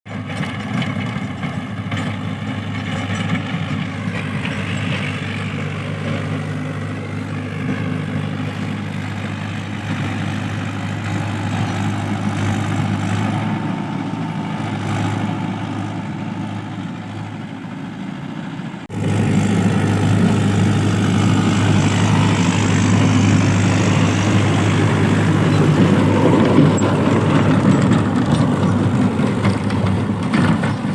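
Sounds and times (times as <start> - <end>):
tractor diesel engine running: 0.1 - 30.9.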